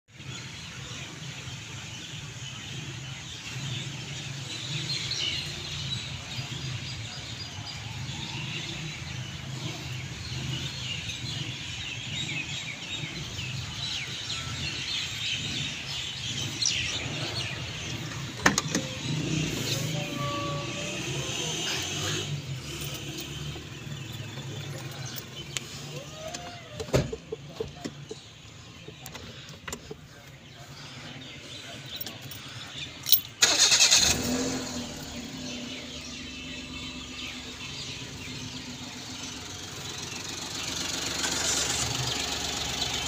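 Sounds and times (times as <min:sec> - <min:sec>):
birds chirping: 0:00.1 - 0:43.0
engine idling: 0:05.3 - 0:43.0.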